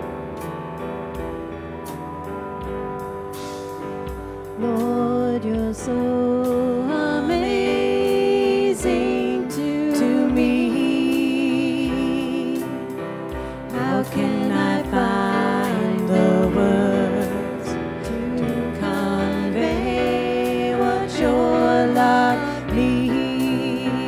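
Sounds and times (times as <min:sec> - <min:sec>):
band accompaniment: 0:00.0 - 0:24.0
low drum beat: 0:00.0 - 0:24.0
person singing with vibrato: 0:04.6 - 0:24.0.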